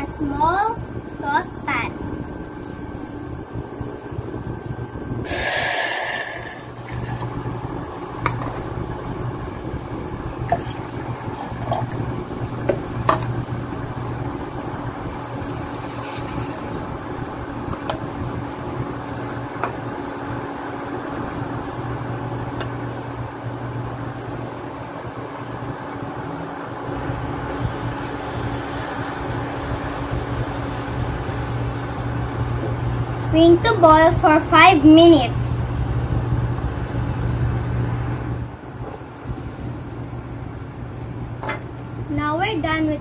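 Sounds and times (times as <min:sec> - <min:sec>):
induction cooktop hum: 0:00.0 - 0:43.0.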